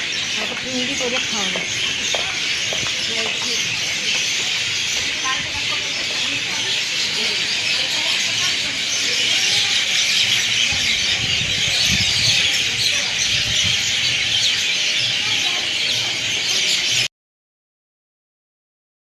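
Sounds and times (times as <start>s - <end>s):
birdsong and chirping: 0.0s - 17.1s.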